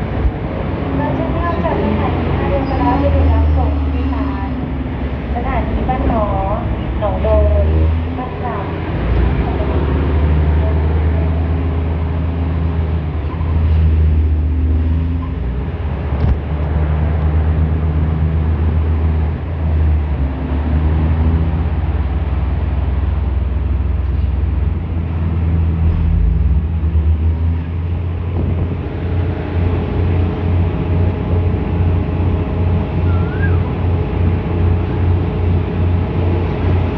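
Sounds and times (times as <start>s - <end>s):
train rumble and rattle: 0.0s - 36.9s.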